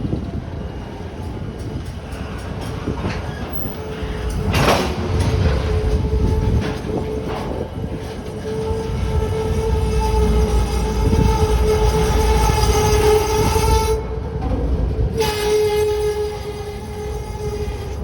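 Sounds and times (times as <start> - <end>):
freight cars rolling on rails: 0.0 - 18.0.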